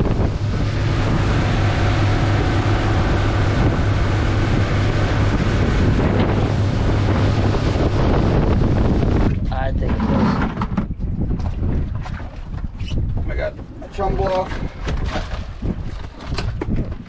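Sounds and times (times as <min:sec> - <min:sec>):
boat engine drone: 0:00.0 - 0:17.0
water rushing past hull: 0:00.0 - 0:17.0
wind on microphone: 0:00.0 - 0:17.0.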